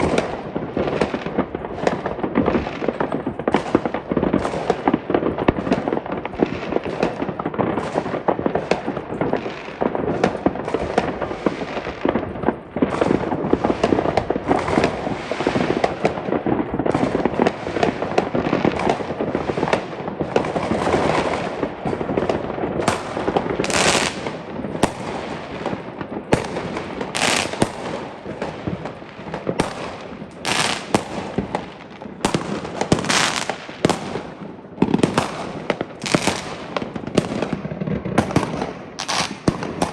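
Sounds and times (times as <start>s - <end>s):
fireworks popping and crackling: 0.0s - 39.9s
loud sharp firework bangs: 0.0s - 39.9s.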